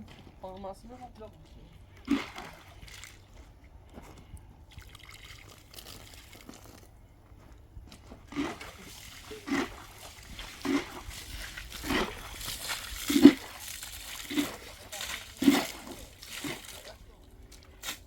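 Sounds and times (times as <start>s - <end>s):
water splashing and sloshing: 0.0s - 7.0s, 7.9s - 18.0s.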